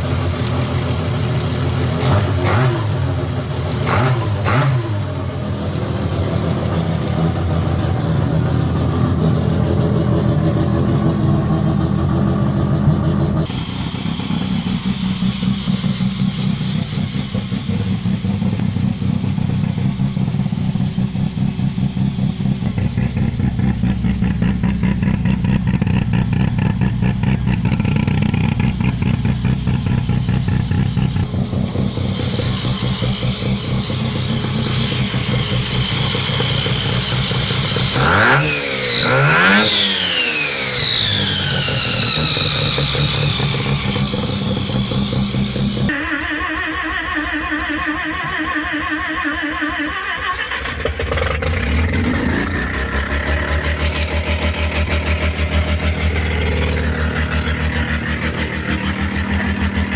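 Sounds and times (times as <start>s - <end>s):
rotary engine idling and revving: 0.0s - 59.9s.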